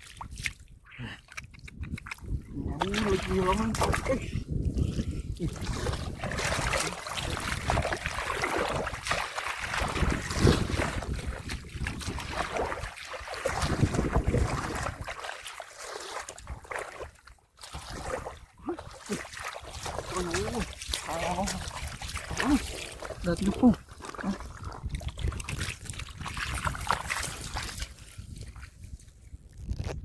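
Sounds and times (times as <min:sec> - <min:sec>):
splashing in muddy water: 0:00.0 - 0:29.9
wind buffeting microphone: 0:01.4 - 0:15.2, 0:19.6 - 0:30.0.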